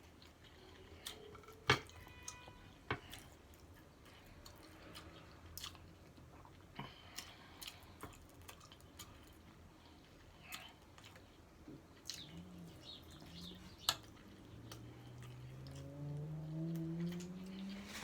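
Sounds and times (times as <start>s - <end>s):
person chewing: 0.0s - 2.2s, 3.0s - 18.0s.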